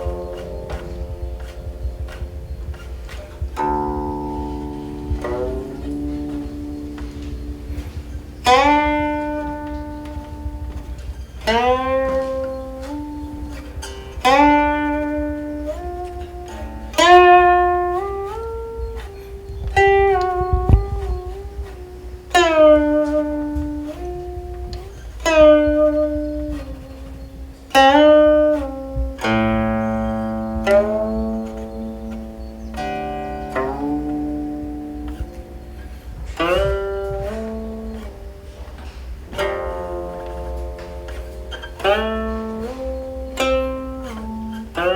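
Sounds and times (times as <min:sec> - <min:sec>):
plucked zither melody: 0:00.0 - 0:44.9.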